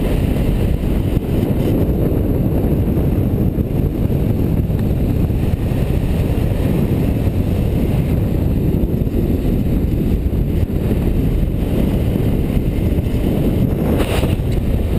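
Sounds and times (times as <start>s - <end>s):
motorcycle running: 0.0s - 14.9s
wind rushing over microphone: 0.0s - 14.9s.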